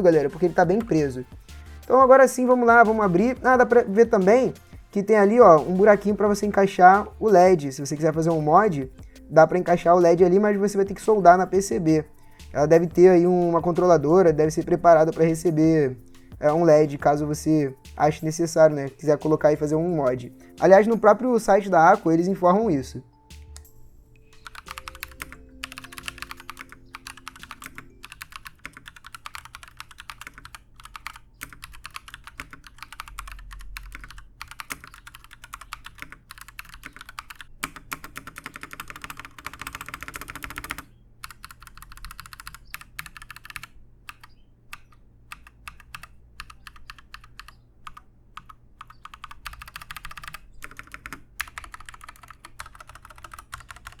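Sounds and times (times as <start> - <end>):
mechanical keyboard typing: 0.0 - 17.2, 24.3 - 54.0.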